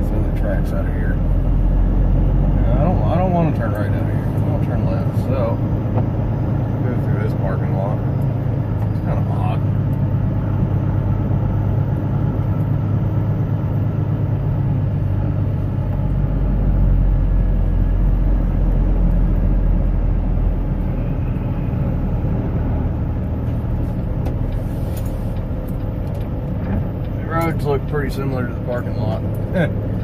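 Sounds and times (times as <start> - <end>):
truck engine rumbling: 0.0 - 30.0.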